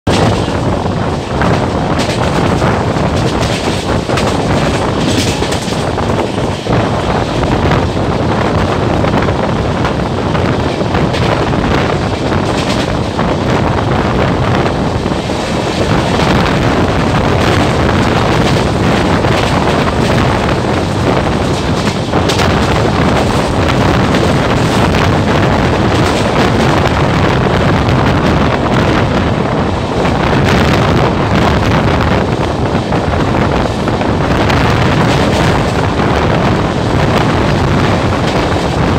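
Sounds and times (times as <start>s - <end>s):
train wheels rumbling on rails: 0.0s - 38.9s
wind buffeting microphone: 0.0s - 38.9s.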